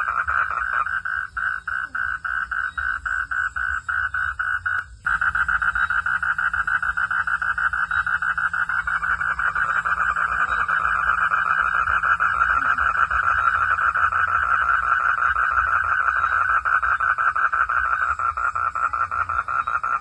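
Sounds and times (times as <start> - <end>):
frogs trilling: 0.0 - 20.0.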